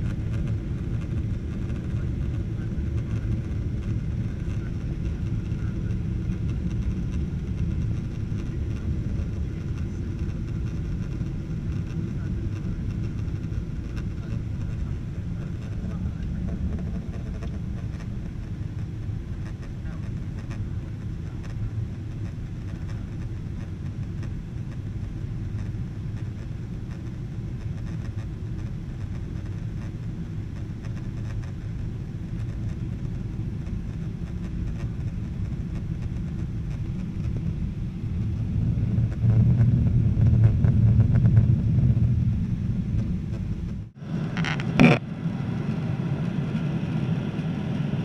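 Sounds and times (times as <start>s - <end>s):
jet cabin engine rumble: 0.0s - 48.0s.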